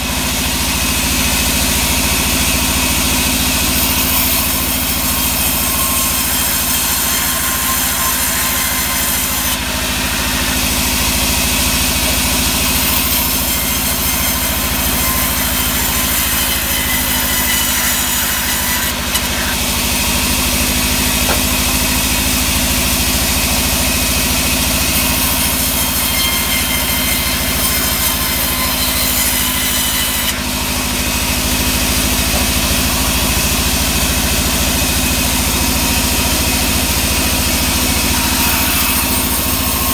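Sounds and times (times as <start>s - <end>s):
band saw blade cutting wood: 0.0s - 39.9s.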